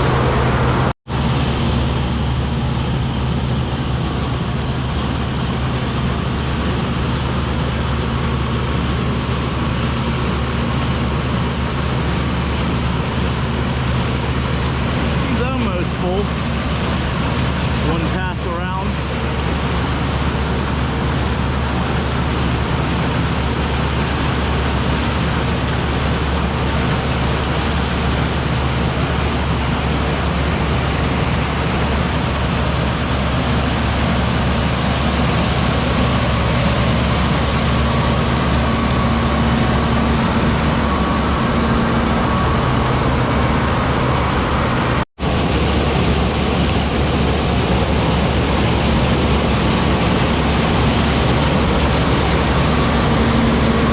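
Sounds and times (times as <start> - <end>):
farm machinery engine running: 0.0 - 53.9
low hum: 0.0 - 53.9.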